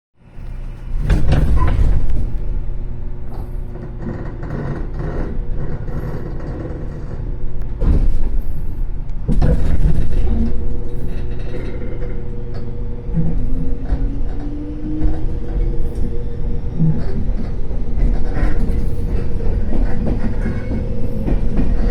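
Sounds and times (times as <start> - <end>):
train rumble: 0.2 - 21.9.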